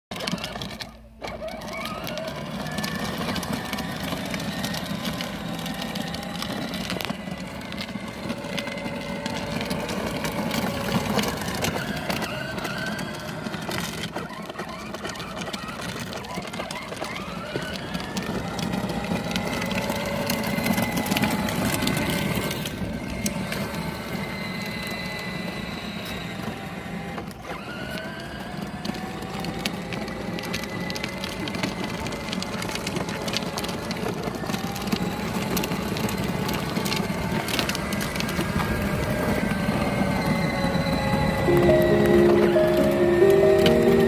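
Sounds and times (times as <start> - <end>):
toy car motor whine: 0.1 - 42.1.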